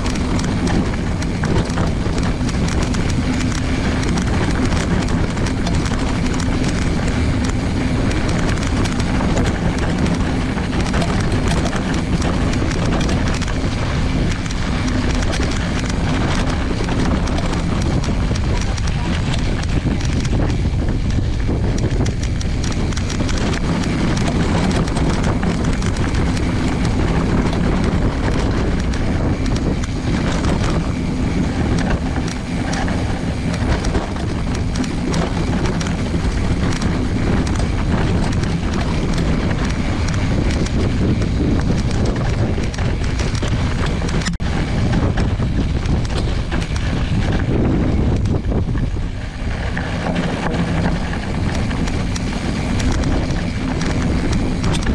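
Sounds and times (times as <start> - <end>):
bike rattling: 0.0 - 54.9
bike tyre crunching over stones: 0.0 - 54.9.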